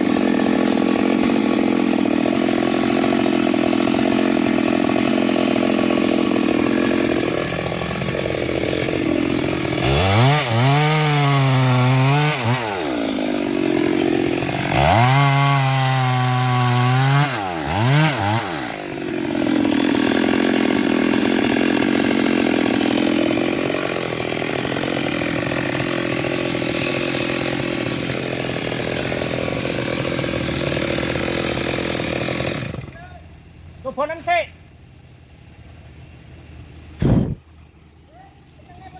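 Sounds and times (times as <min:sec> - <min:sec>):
chainsaw cutting wood: 0:00.0 - 0:33.2, 0:37.0 - 0:37.6.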